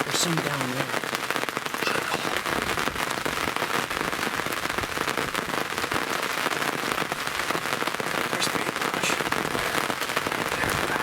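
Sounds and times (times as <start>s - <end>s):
rain on a hard surface: 0.0s - 11.0s.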